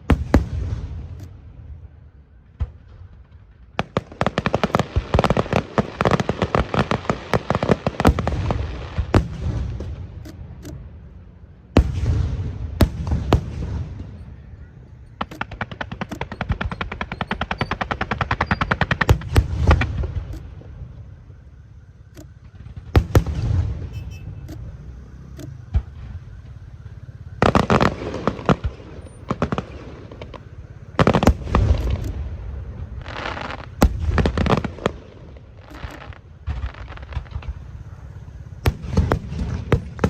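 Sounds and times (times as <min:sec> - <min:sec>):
fireworks bangs: 0:00.0 - 0:40.0
low fireworks booms: 0:00.0 - 0:40.0.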